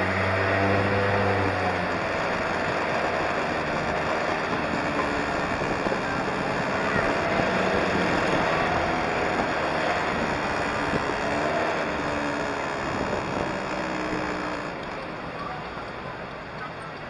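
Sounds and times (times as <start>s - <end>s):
wind rushing over microphone: 0.0s - 14.8s
go-kart engine running: 0.0s - 17.0s.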